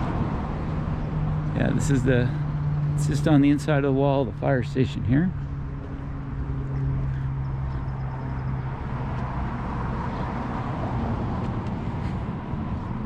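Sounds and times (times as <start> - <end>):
low engine hum: 0.0 - 13.0
passing vehicles: 0.0 - 13.0.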